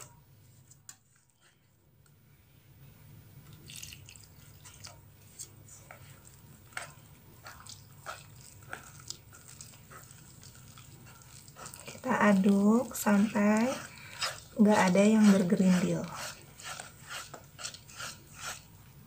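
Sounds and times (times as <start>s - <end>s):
batter being stirred in a bowl: 0.0s - 2.3s, 3.4s - 19.0s.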